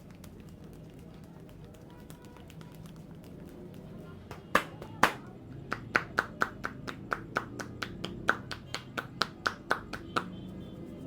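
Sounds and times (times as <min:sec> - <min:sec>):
hands slapping on a head: 0:00.0 - 0:10.4.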